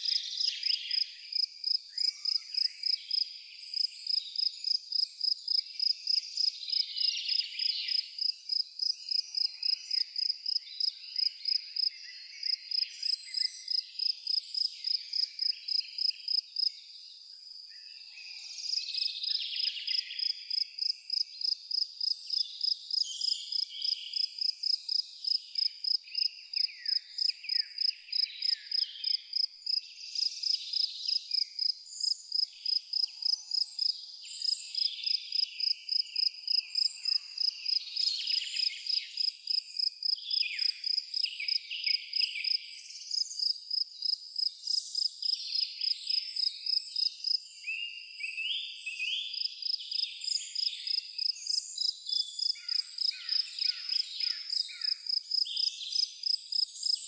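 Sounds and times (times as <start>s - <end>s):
cricket chirping: 0.0s - 17.7s, 18.6s - 48.6s, 49.2s - 57.0s.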